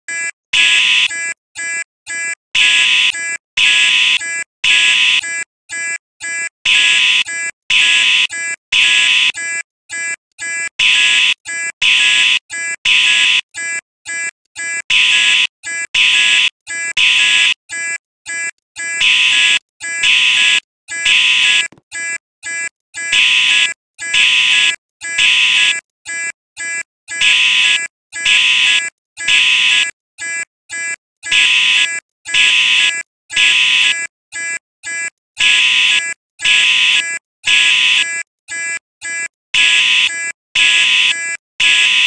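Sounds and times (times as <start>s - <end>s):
fire alarm buzzing pulses: 0.1s - 42.0s.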